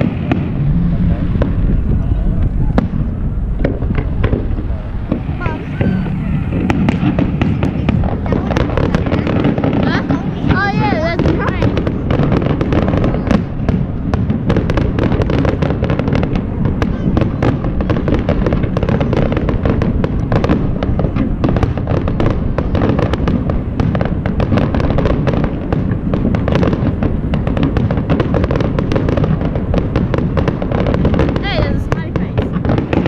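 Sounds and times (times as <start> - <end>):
fireworks bangs and crackles: 0.0 - 33.0
steady low rumble: 0.0 - 33.0.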